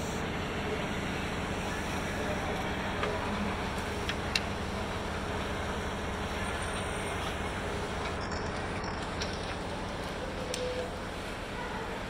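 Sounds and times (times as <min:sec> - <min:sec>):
escalator hum and rumble: 0:00.0 - 0:12.0.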